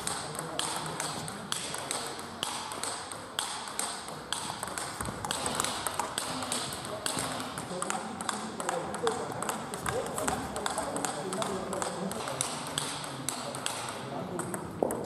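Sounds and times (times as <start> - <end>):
table tennis ball clicking: 0.0 - 15.0.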